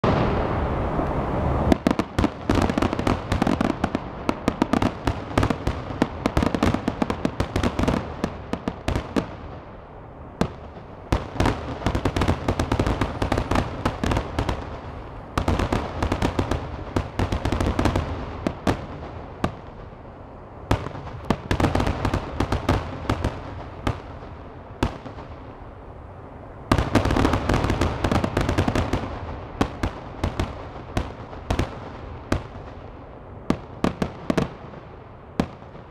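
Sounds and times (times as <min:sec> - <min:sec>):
fireworks crackling and popping: 0:00.0 - 0:20.1, 0:20.7 - 0:25.8, 0:26.7 - 0:35.9
fireworks low booms: 0:00.0 - 0:25.8, 0:26.6 - 0:35.9.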